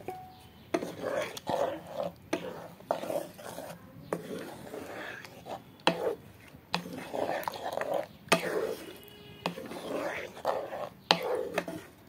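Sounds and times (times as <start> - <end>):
spatula scraping pan: 0.0 - 12.0.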